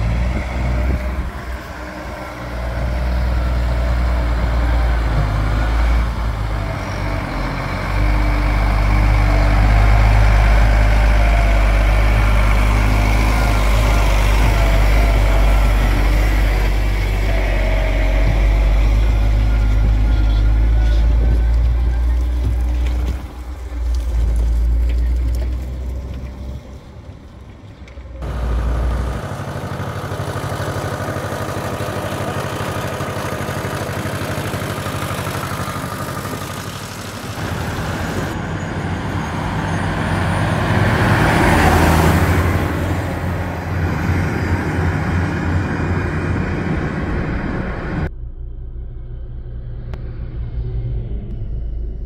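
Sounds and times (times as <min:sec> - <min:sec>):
tractor diesel engines running: 0:00.0 - 0:48.1
tractor passing close: 0:00.0 - 0:48.1.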